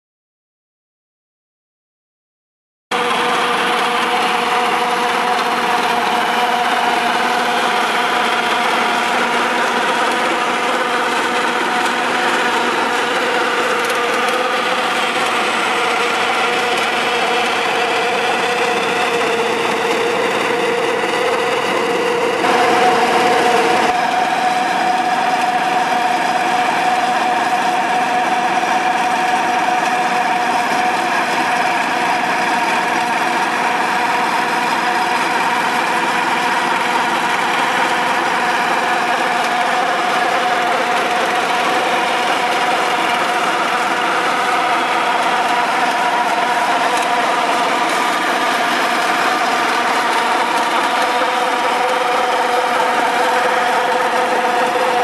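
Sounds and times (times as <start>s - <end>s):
small petrol engine running: 2.9s - 55.0s.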